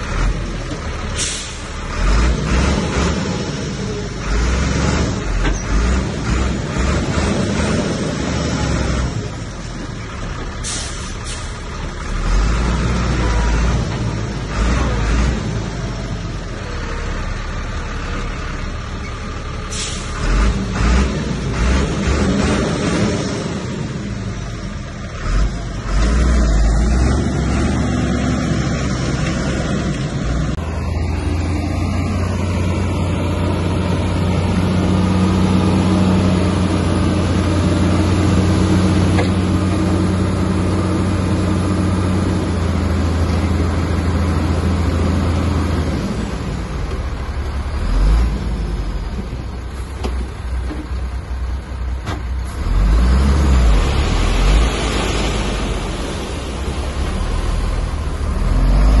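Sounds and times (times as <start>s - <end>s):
heavy machinery diesel engine running: 0.0s - 59.0s.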